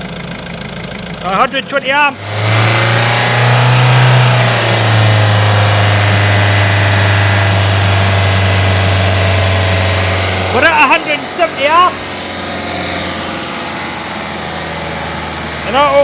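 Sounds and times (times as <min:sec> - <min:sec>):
diesel engine running at raised speed: 0:00.0 - 0:16.0.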